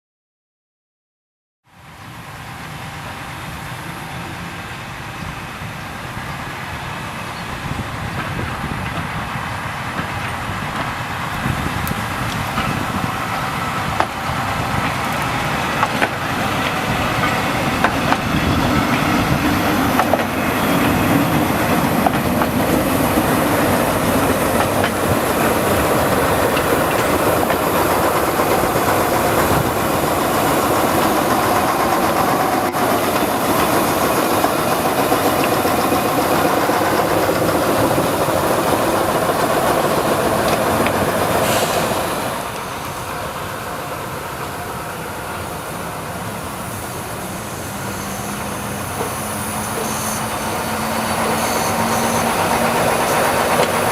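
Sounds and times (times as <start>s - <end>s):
diesel locomotive running: 1.7s - 53.9s
wheels clicking on rails: 9.9s - 53.9s.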